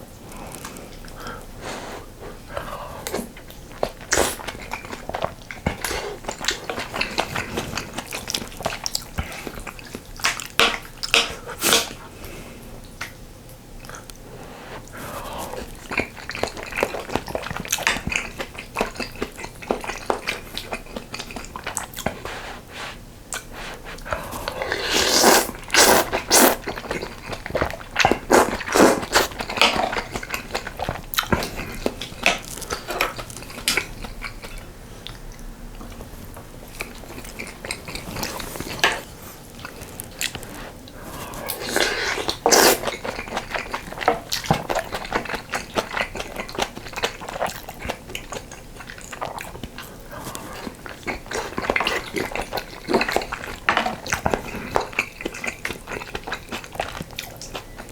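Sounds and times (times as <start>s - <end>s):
chewing and mouth clicks: 2.5s - 12.0s, 12.8s - 57.9s.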